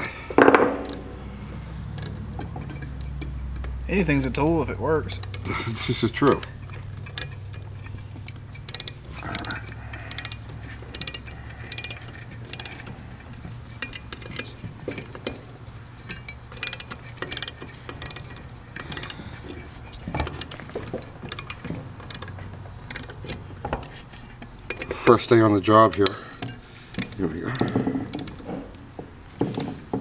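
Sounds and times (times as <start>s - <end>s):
metallic clicks and taps: 0.0s - 1.1s, 1.9s - 3.8s, 5.0s - 5.4s, 6.3s - 15.4s, 16.0s - 25.1s, 25.9s - 28.6s
steady low hum: 0.0s - 30.0s.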